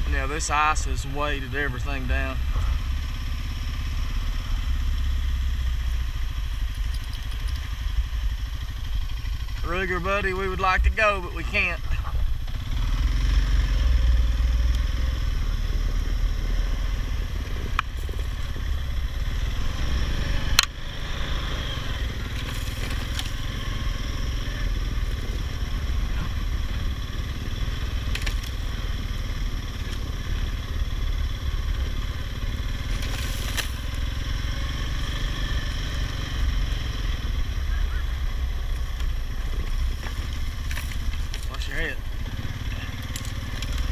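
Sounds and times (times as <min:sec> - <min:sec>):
atv engine rumbling: 0:00.0 - 0:43.9.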